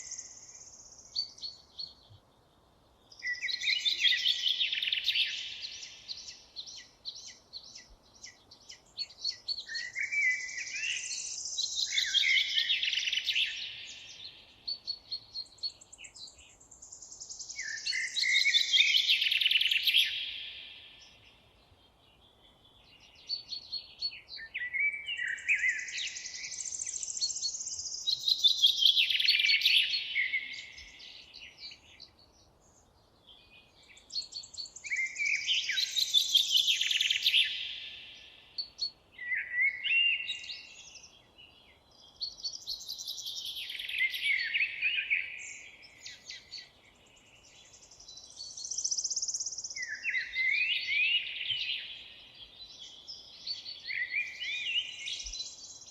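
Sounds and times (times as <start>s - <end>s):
songbirds warbling: 0.0s - 55.9s.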